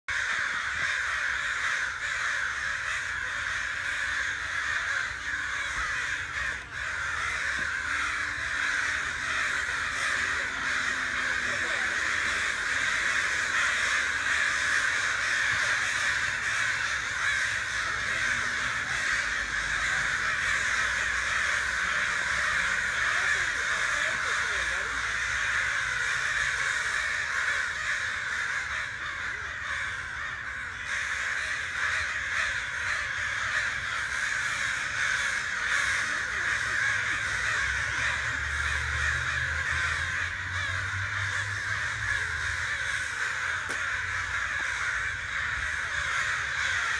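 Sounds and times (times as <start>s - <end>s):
flock of birds calling: 0.1s - 46.9s.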